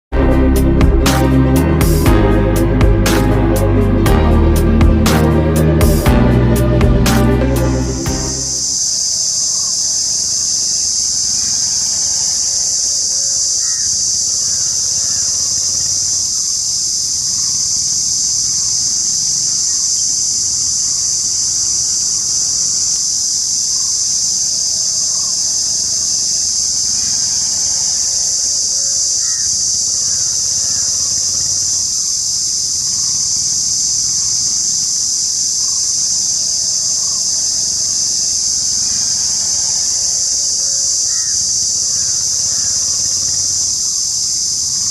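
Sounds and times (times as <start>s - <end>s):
cicada buzzing: 0.0s - 44.9s.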